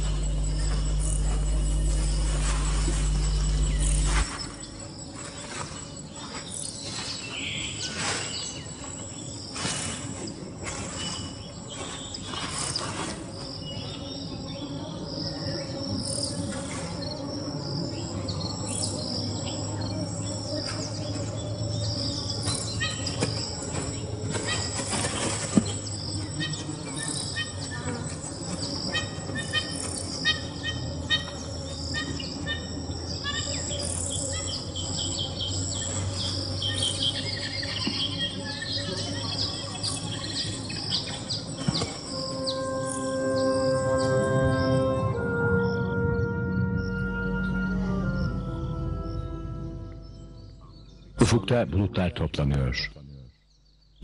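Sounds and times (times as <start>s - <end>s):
low steady hum: 0.0s - 6.2s, 13.7s - 54.0s
insects chirping: 0.0s - 51.2s
birds chirping: 0.0s - 54.0s.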